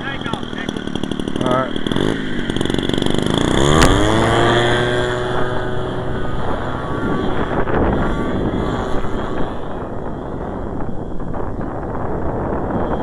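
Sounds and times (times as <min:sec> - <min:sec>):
model airplane engine flying past: 0:00.0 - 0:13.0
wind buffeting microphone: 0:00.0 - 0:13.0.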